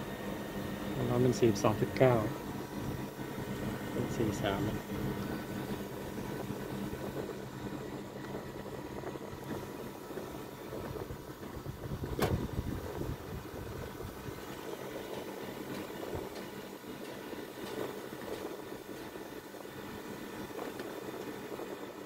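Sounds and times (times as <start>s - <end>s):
air conditioner compressor humming: 0.0s - 22.0s
condenser fan turning: 0.0s - 22.0s.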